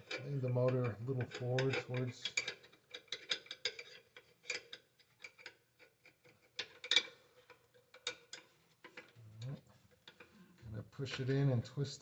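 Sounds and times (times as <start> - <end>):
metallic clicks and knocks: 0.0 - 10.4.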